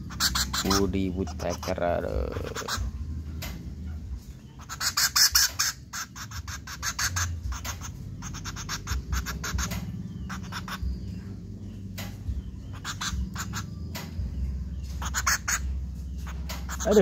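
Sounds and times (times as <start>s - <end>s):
woodpecker clicking calls: 0.0s - 17.0s.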